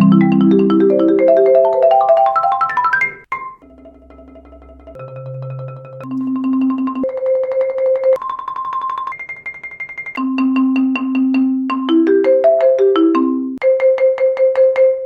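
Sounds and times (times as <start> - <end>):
marimba rolls with yarn mallets: 0.0 - 15.0.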